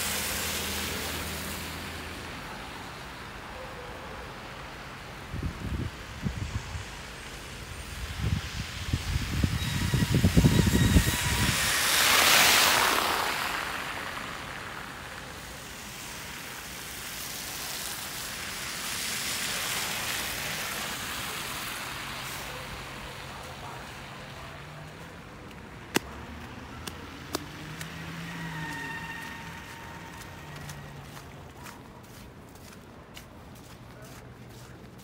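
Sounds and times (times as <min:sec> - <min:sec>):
vehicles passing with hiss: 0:00.0 - 0:35.0.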